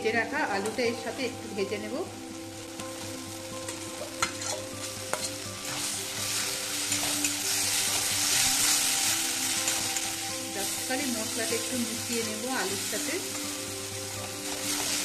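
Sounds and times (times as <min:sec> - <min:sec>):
potatoes sizzling in a pan: 0:00.0 - 0:15.0.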